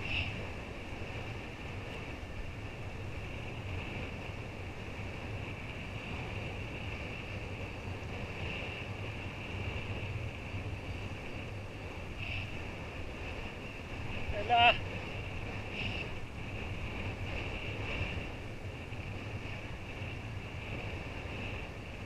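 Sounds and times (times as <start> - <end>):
board hissing over water: 0.0 - 22.0
wind buffeting microphone: 0.0 - 22.0.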